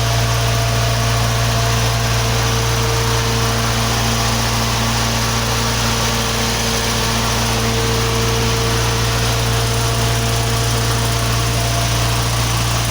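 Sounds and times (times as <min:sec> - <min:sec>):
generator diesel engine droning: 0:00.0 - 0:12.9.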